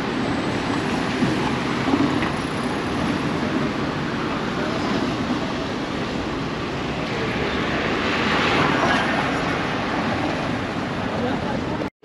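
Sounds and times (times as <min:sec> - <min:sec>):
road traffic: 0:00.0 - 0:11.9.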